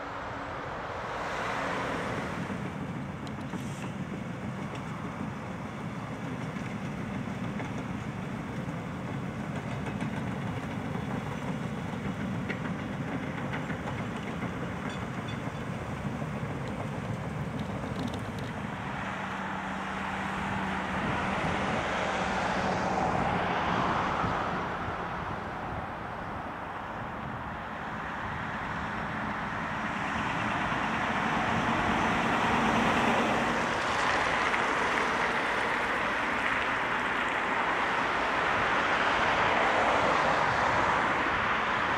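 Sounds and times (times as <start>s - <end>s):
passing traffic: 0.0s - 41.9s.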